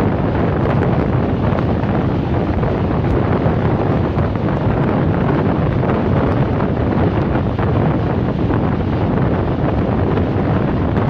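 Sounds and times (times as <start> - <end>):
train rumbling along track: 0.0 - 11.0
wind buffeting microphone: 0.0 - 11.0.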